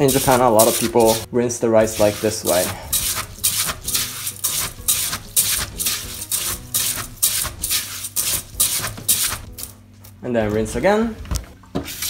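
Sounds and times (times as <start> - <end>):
hand scrubbing wet rice in pot: 0.0 - 9.7.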